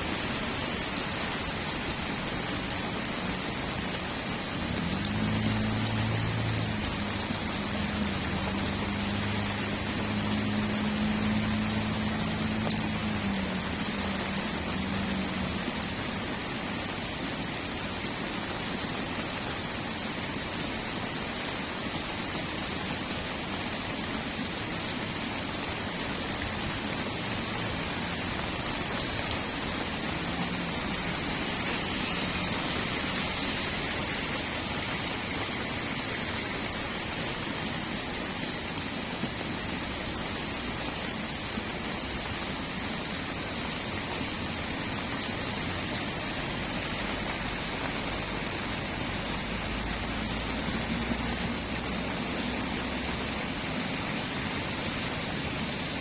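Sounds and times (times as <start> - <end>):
steady rain on a street: 0.0 - 56.0.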